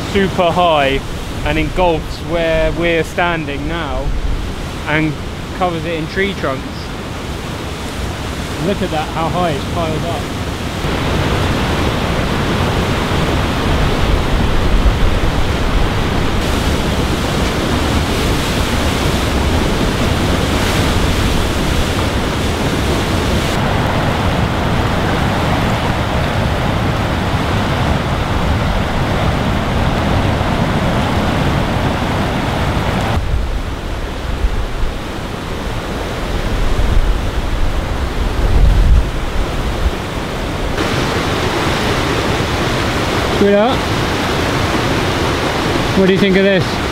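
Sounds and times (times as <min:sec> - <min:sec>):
wind buffeting microphone: 0:00.0 - 0:46.0
river rushing through rapids: 0:00.0 - 0:46.9.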